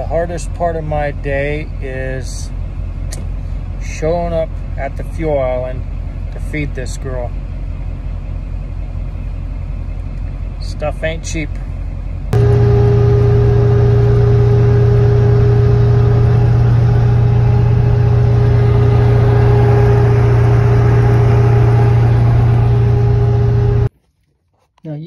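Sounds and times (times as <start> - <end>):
truck engine hum: 0.0 - 23.9.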